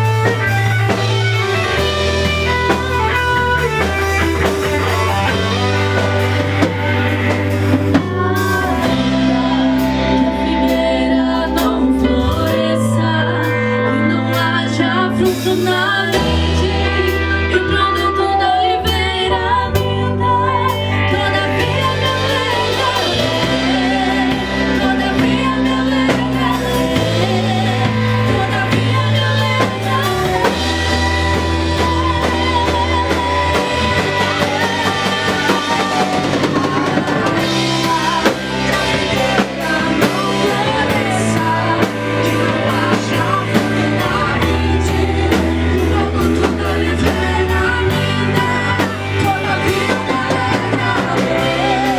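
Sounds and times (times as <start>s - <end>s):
drum kit: 0.0s - 12.8s, 15.2s - 18.2s, 19.8s - 51.9s
guitar: 0.0s - 51.9s
keyboard: 0.0s - 51.9s
voices singing: 0.0s - 51.9s.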